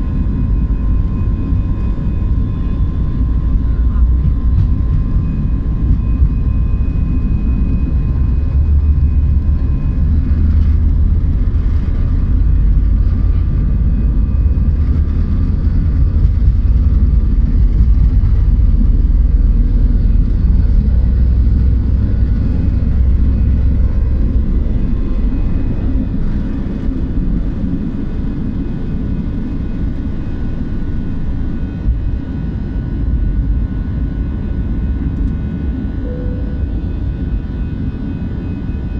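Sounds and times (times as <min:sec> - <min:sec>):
jet engines at takeoff thrust: 0:00.0 - 0:38.9
wheels rumbling on runway: 0:00.0 - 0:38.9.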